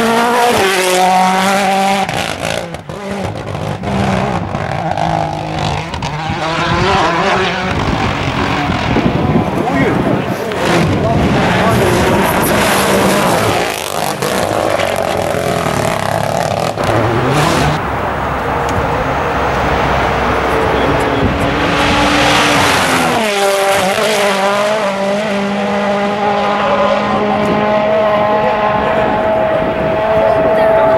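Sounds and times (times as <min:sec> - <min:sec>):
rally car engine revving: 0:00.0 - 0:30.9.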